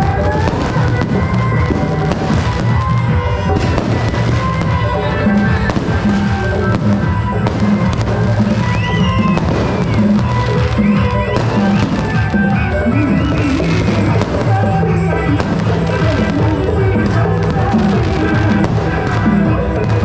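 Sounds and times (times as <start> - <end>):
fireworks crackling bangs: 0.0 - 20.0
loud bass-heavy music: 0.0 - 20.0
rockets whistling: 0.0 - 20.0.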